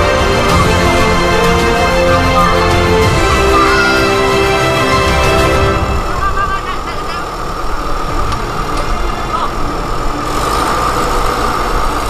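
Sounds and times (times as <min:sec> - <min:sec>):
diesel engines idling: 0:00.0 - 0:12.0.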